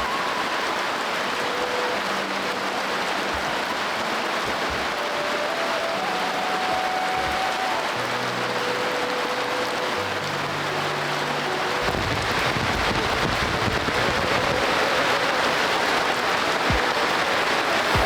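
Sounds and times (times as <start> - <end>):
rushing water hiss: 0.0 - 18.0.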